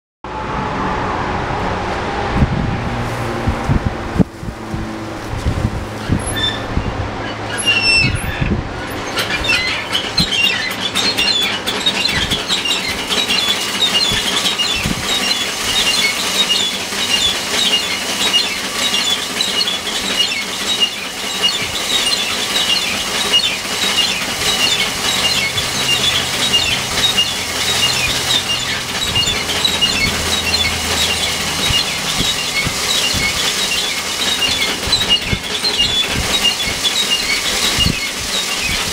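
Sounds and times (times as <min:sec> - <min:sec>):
machine running hum: 0:00.2 - 0:38.9
thresher drum rattling: 0:02.9 - 0:38.9.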